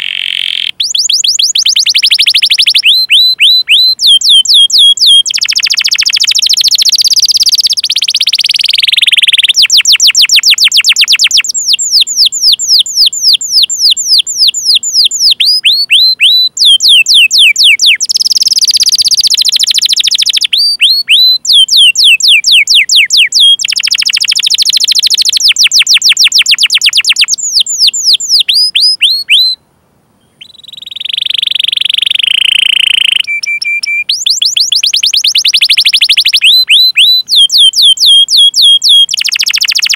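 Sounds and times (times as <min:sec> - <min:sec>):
canary singing: 0:00.0 - 0:29.6, 0:30.2 - 0:39.9.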